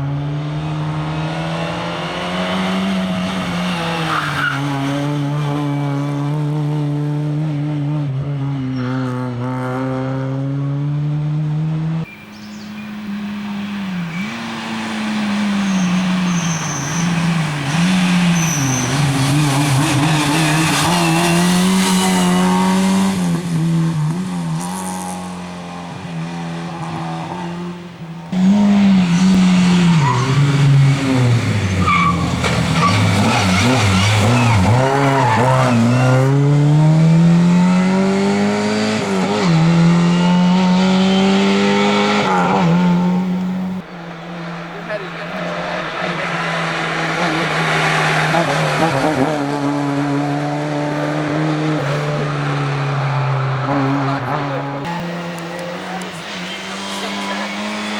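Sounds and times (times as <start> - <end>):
tyres skidding and squealing: 0.0 - 10.0, 12.0 - 57.9
rally car engine revving: 0.0 - 57.9.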